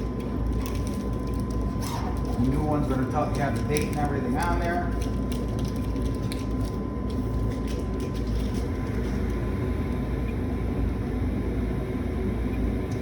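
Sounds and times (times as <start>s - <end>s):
gas furnace low rumble: 0.0s - 13.0s.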